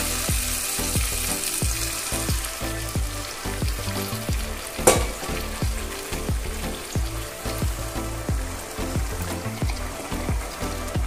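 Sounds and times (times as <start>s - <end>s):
curry sizzling and bubbling: 0.0s - 11.0s.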